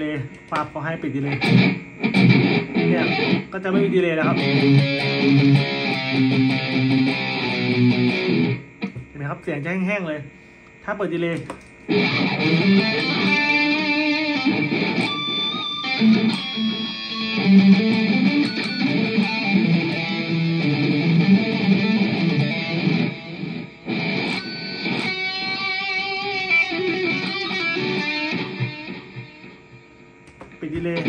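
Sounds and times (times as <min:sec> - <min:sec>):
electric guitar with delay echoes: 0:01.4 - 0:09.0, 0:11.9 - 0:29.6.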